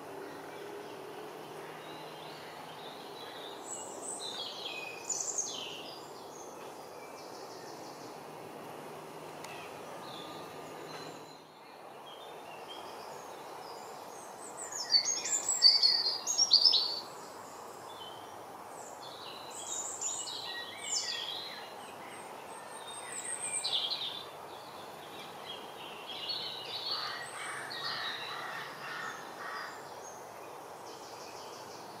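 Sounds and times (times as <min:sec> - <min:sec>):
outdoor background hiss: 0:00.0 - 0:32.0
songbirds singing: 0:00.0 - 0:32.0.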